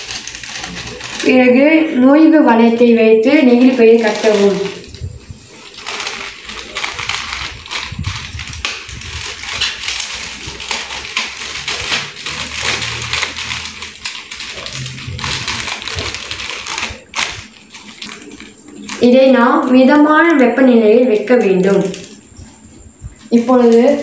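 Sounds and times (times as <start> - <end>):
plastic bag crinkling: 0.0 - 19.4, 21.5 - 22.7.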